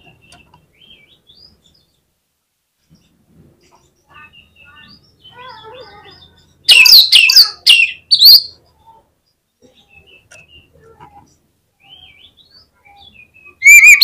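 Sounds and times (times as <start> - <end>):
bird singing: 0.0 - 2.1, 2.8 - 14.0.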